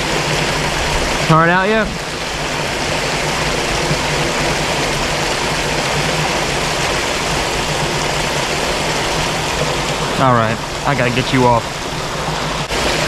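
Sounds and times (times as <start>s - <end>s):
water rushing over a spillway: 0.0s - 13.0s.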